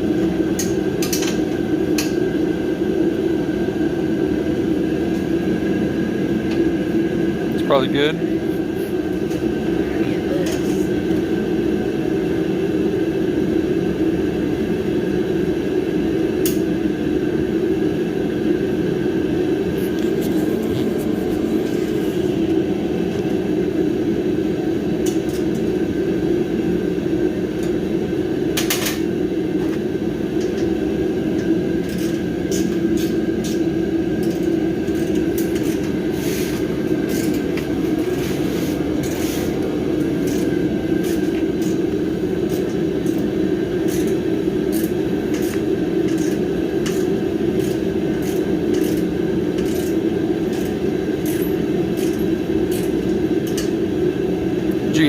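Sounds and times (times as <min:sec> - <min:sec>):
loud droning hum: 0:00.0 - 0:55.0.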